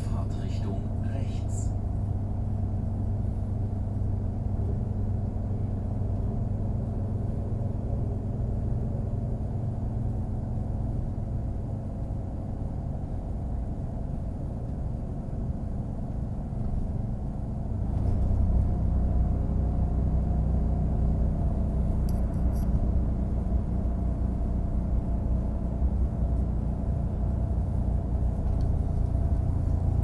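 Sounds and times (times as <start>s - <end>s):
diesel railcar engine drone: 0.0s - 30.0s.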